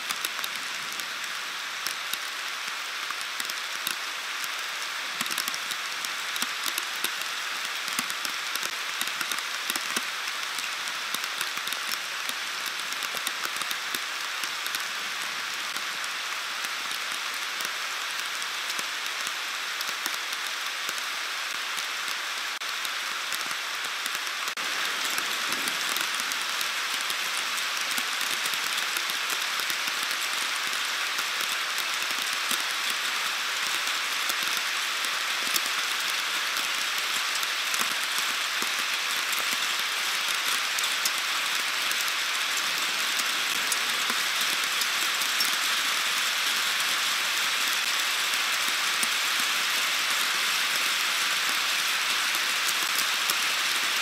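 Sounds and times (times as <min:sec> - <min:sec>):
heavy rain pouring: 0:00.0 - 0:54.0
raindrops ticking close by: 0:00.0 - 0:54.0.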